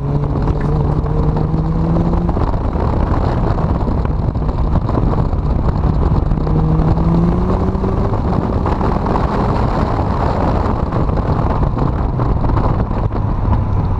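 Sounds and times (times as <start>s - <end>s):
car engine running: 0.0s - 13.9s
wind noise on microphone: 0.0s - 13.9s.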